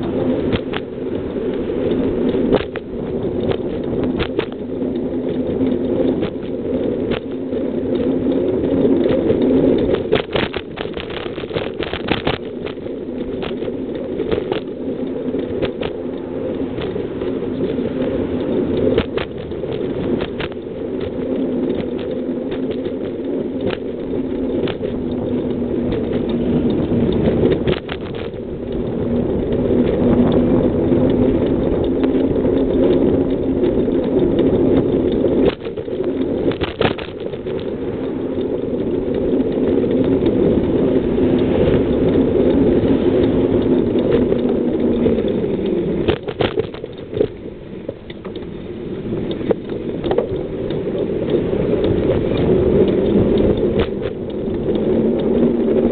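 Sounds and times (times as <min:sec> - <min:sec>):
bicycle rolling on pavement: 0:00.0 - 0:55.9.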